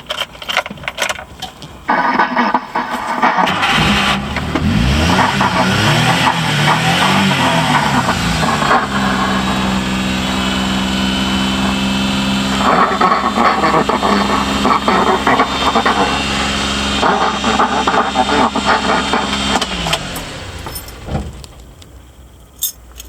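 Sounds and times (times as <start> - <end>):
small engine idling: 1.9 - 22.5.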